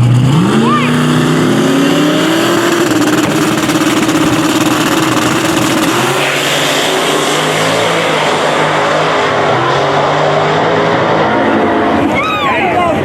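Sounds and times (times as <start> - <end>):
drag racing engine at high revs: 0.0 - 13.0.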